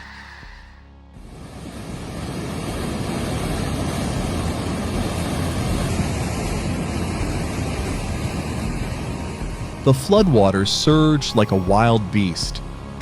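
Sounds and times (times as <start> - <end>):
floodwater rushing: 1.5 - 13.0.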